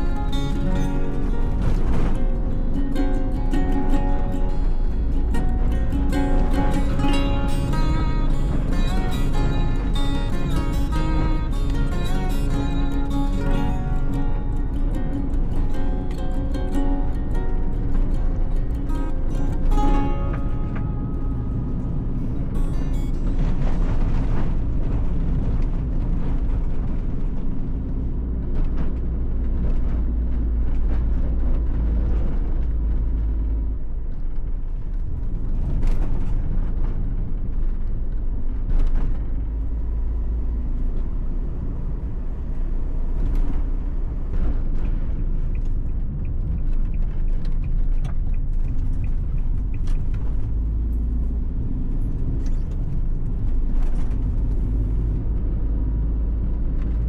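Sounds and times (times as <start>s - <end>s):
van engine and road rumble: 0.0s - 57.0s.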